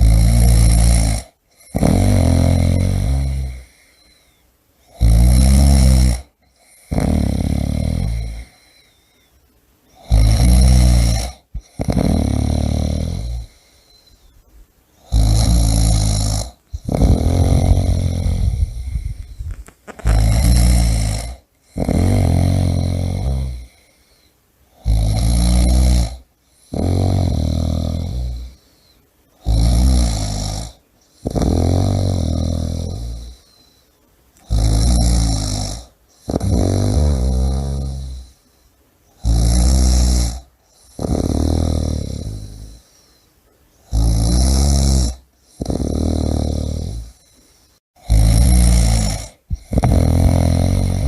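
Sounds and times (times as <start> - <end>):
person snoring: 0.0 - 9.1, 10.0 - 14.3, 15.0 - 33.8, 34.4 - 38.5, 39.1 - 43.2, 43.8 - 51.0.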